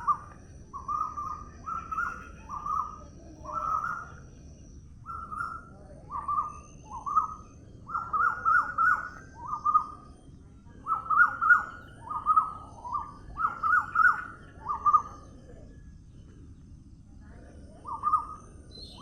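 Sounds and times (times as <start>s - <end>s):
low steady background hiss: 0.0s - 19.0s.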